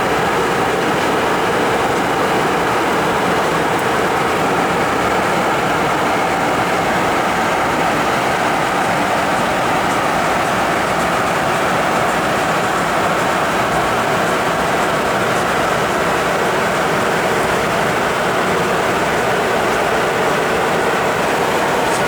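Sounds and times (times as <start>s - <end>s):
jet cabin engine and airflow rumble: 0.0s - 22.0s.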